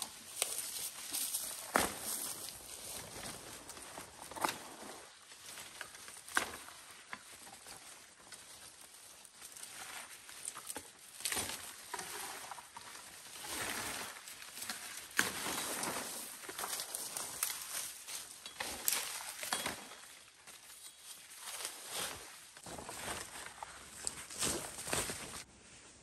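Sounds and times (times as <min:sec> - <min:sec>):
leaves rustling and swishing: 0:00.1 - 0:25.5.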